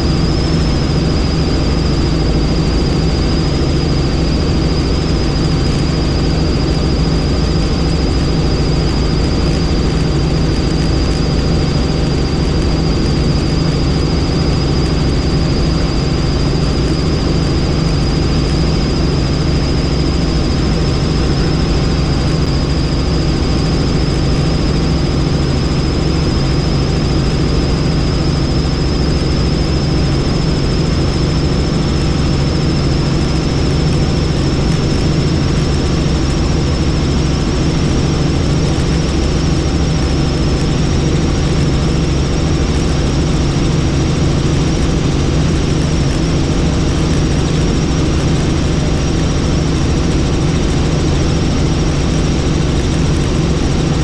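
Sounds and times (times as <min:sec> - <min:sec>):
helicopter rotor and engine: 0:00.0 - 0:54.0
high turbine whine: 0:00.0 - 0:54.0.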